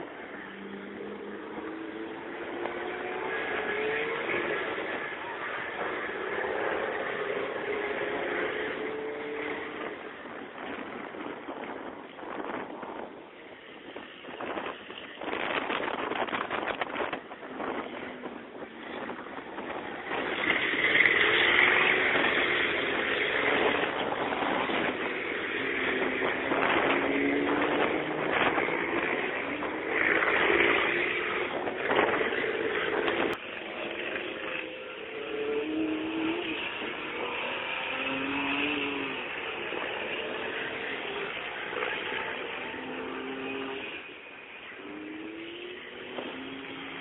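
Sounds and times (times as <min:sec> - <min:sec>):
truck engines passing: 0:00.0 - 0:47.0.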